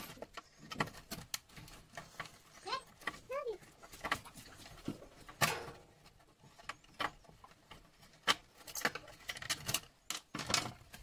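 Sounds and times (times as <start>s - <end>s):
hand tools clicking and knocking: 0.0s - 11.0s.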